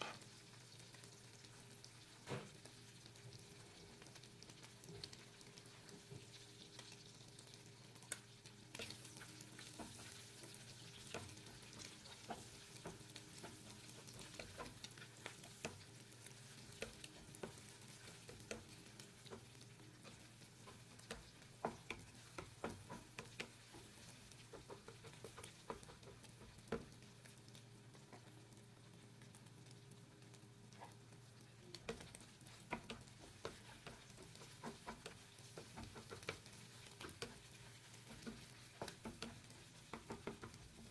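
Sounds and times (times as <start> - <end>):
eggs sizzling in frying pan: 0.0 - 40.9
spatula clicking and scraping pan: 0.0 - 40.9.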